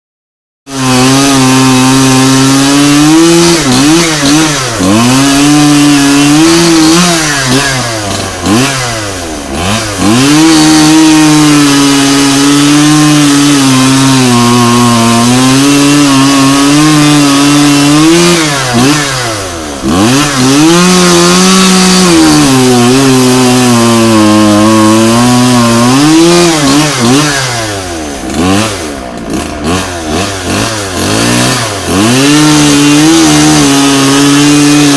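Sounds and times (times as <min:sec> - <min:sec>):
chainsaw cutting wood: 0:00.7 - 0:34.9.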